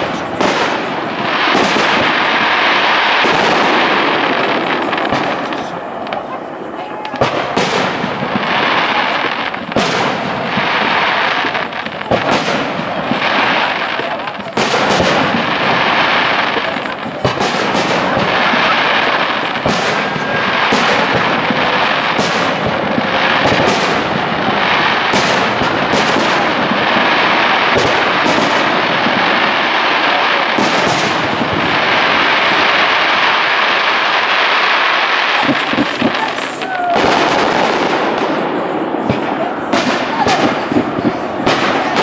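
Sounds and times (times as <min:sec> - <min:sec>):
firework shells bursting with bangs: 0:00.0 - 0:42.0.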